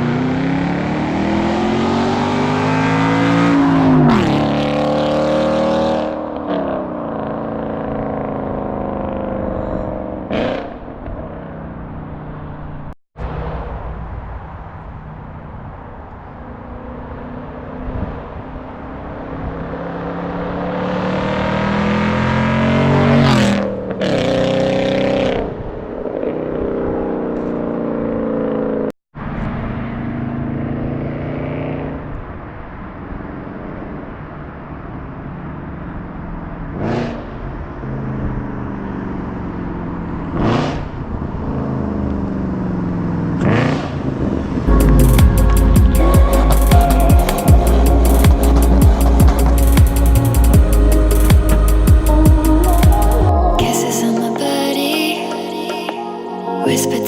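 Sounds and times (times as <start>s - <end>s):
car engine accelerating hard: 0.0s - 14.5s, 15.1s - 32.4s, 36.1s - 53.6s.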